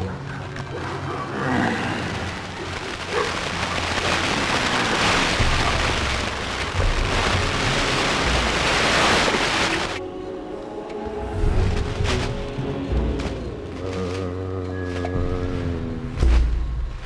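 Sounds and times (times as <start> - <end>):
faint steady music tones: 0.0 - 4.4, 5.0 - 17.0.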